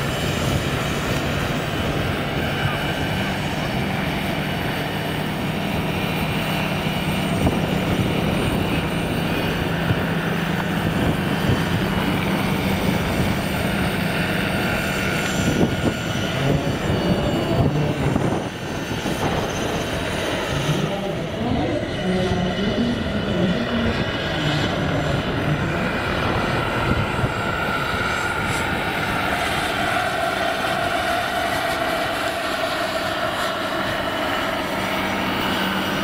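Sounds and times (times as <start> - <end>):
model helicopter rotor drone: 0.0 - 36.0
wind noise: 0.0 - 36.0.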